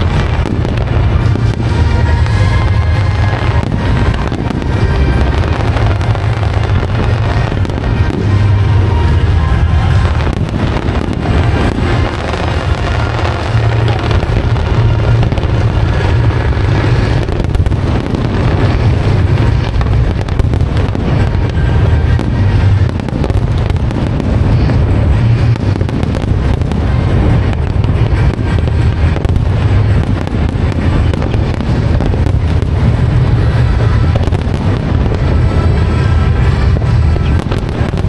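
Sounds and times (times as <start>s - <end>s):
fireworks pops and crackles: 0.0s - 38.0s
low rumble: 0.0s - 38.0s
music playing: 0.0s - 38.0s.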